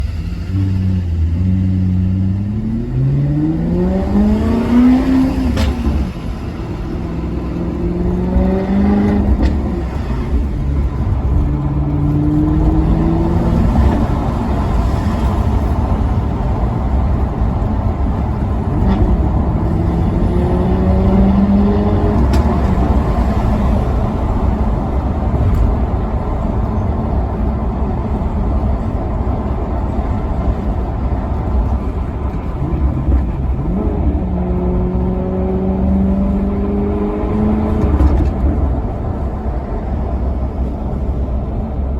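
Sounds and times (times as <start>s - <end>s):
car engine accelerating: 0.0s - 41.9s
road and wind noise: 0.0s - 41.9s.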